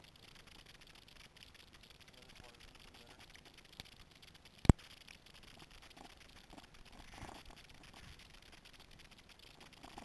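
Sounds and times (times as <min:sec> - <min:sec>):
muffled underwater river noise: 0:00.0 - 0:10.0.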